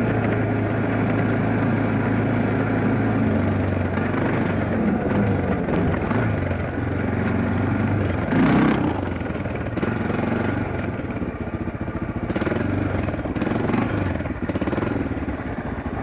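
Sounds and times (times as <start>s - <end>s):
dirt bike engine revving: 0.0s - 11.0s, 12.2s - 16.0s.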